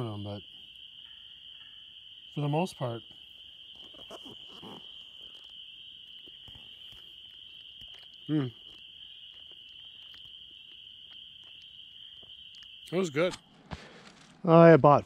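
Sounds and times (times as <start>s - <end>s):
frogs calling: 0.0s - 15.0s.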